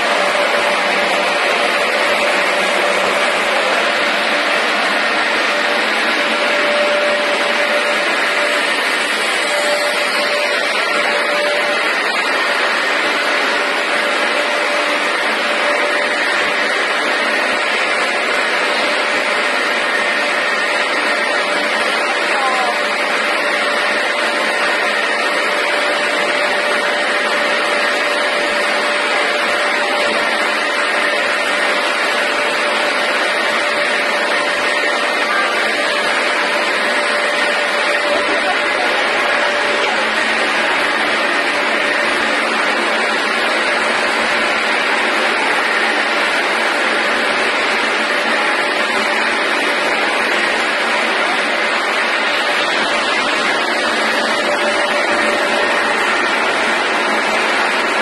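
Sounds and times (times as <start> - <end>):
constant machine whine: 0.0 - 58.0
fryer conveyor whirring: 0.0 - 58.0.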